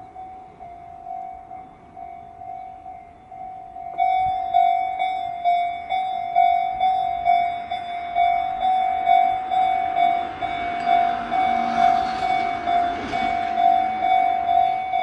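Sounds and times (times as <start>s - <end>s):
level-crossing warning bell clanging: 0.0s - 15.0s.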